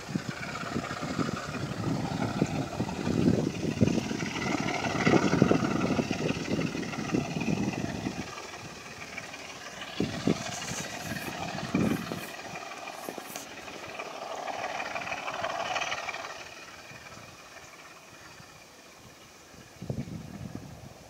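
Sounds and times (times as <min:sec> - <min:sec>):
distant diesel locomotive engine: 0:00.0 - 0:21.0
wind buffeting microphone: 0:00.0 - 0:21.0.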